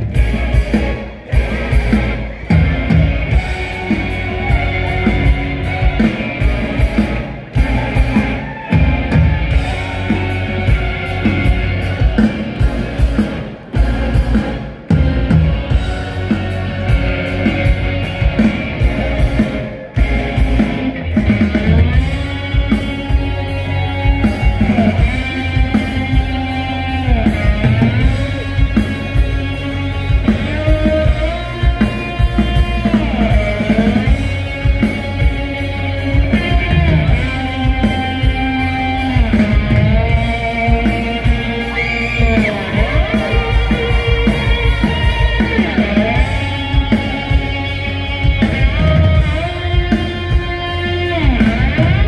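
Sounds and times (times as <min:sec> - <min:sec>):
rock band playing live: 0:00.0 - 0:52.0.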